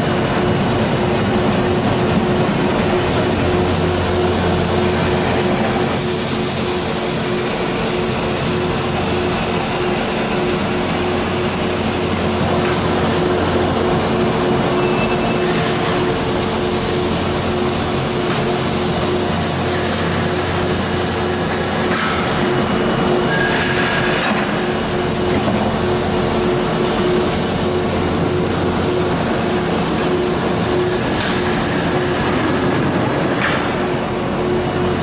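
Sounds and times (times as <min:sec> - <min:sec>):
drilling machine humming: 0:00.0 - 0:33.4.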